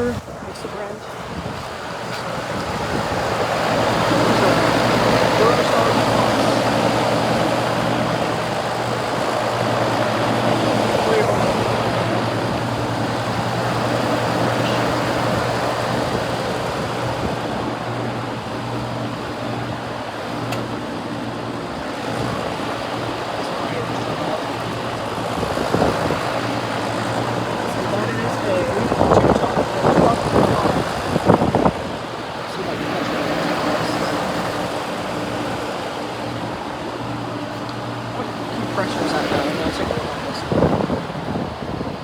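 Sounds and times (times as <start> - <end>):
compressor hum: 0.0 - 42.0
condenser fans whooshing: 0.0 - 42.0.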